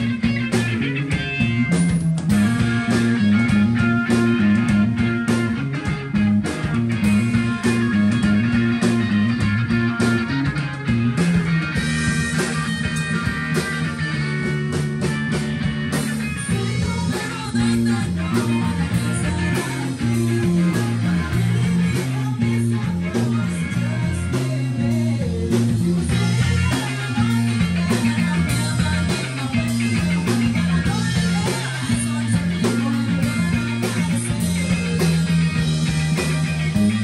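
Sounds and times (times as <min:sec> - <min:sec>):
bass line: 0:00.0 - 0:37.0
electric guitar: 0:00.0 - 0:37.0.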